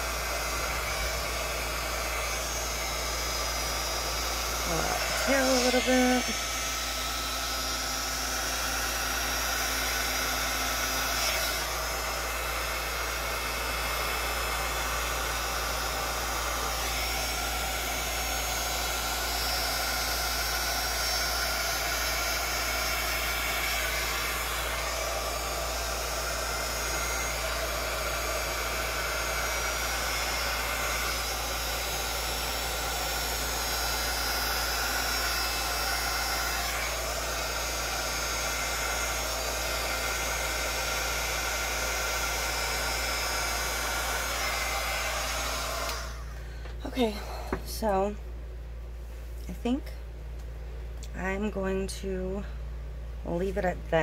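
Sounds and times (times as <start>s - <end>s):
heat gun fan blowing: 0.0s - 54.0s.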